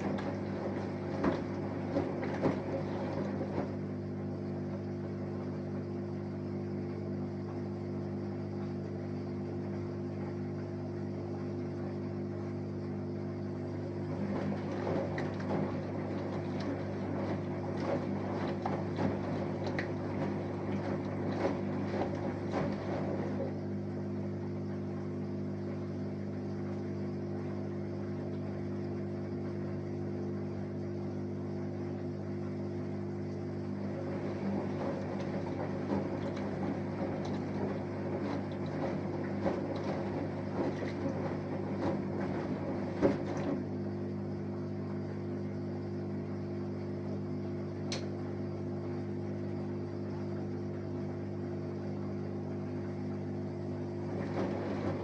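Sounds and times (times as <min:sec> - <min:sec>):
laundry and water churning: 0:00.0 - 0:55.0
washing machine hum: 0:00.0 - 0:55.0.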